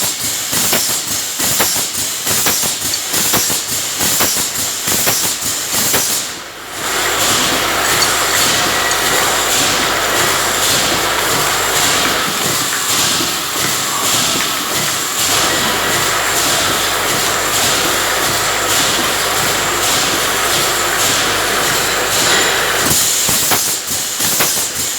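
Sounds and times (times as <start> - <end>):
filling machine rushing noise: 0.0 - 24.9
sharp machine clicks: 0.0 - 24.9.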